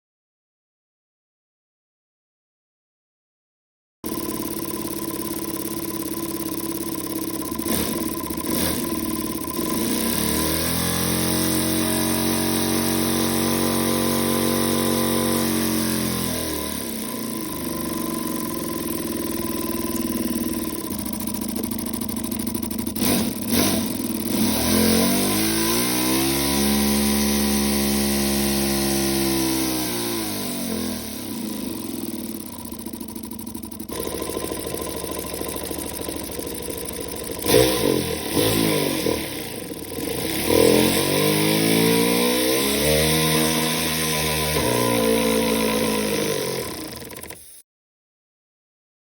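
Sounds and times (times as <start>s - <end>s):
pneumatic engine buzzing: 4.0s - 47.6s.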